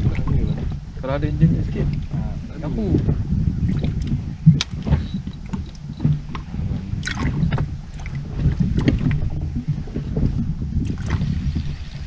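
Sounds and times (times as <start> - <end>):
waves lapping against boat hull: 0.0 - 12.0
wind on microphone: 0.0 - 12.0.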